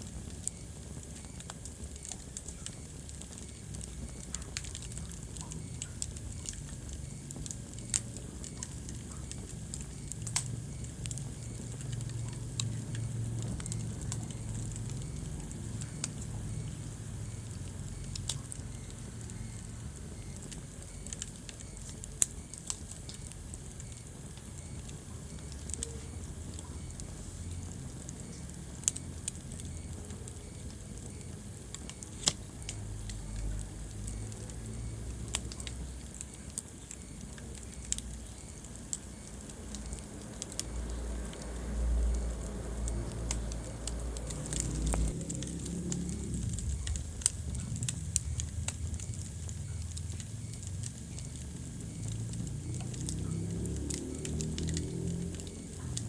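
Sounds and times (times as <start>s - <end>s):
fire crackling and popping: 0.0s - 56.0s
fire rumbling: 0.0s - 56.0s.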